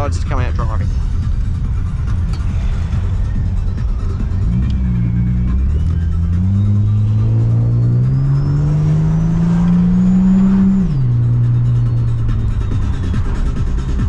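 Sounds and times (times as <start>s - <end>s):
car engine accelerating: 0.0s - 14.0s
music from car stereo: 0.0s - 14.0s
supercharger whine: 0.3s - 14.0s.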